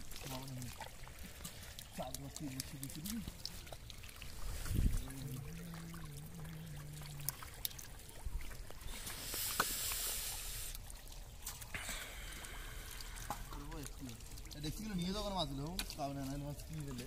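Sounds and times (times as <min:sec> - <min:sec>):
muddy water splashing and trickling: 0:00.0 - 0:17.0
small fish splashing: 0:00.0 - 0:17.0.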